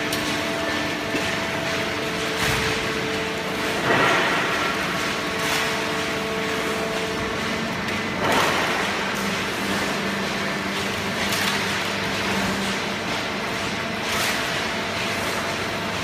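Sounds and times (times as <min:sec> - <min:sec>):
baler machine hum: 0:00.0 - 0:16.0.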